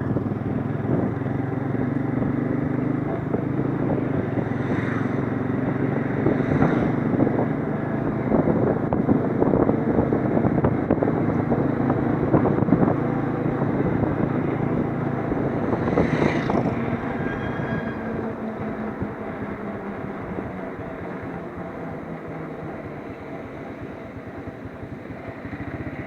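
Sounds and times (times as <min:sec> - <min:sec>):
motorcycle engine running: 0:00.0 - 0:26.0
road noise: 0:00.0 - 0:26.0
rushing wind: 0:00.0 - 0:26.0.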